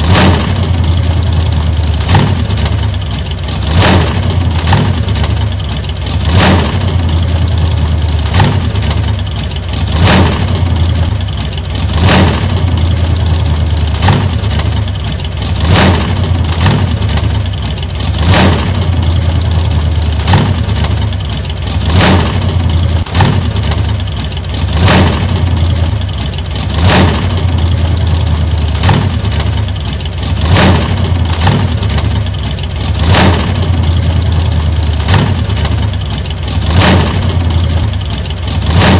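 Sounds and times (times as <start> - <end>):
car engine humming: 0.0 - 38.9.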